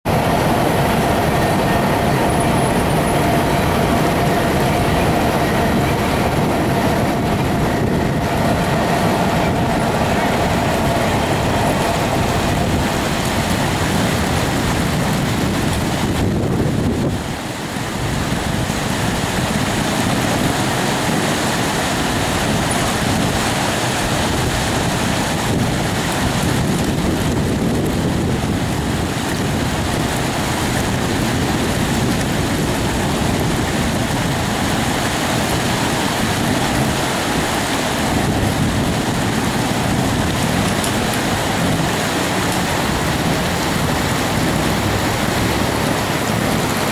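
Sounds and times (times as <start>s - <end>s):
steady rushing noise: 0.0s - 46.9s.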